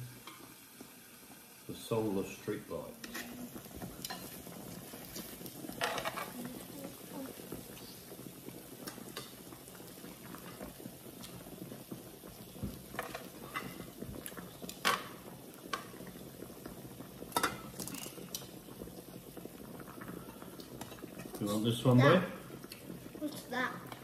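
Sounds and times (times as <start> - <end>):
grill sizzling and bubbling: 0.0 - 24.0.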